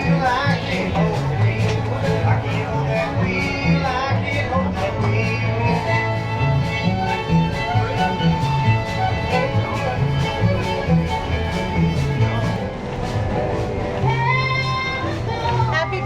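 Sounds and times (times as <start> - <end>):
bluegrass band playing: 0.0 - 16.0
fiddle: 0.0 - 16.0.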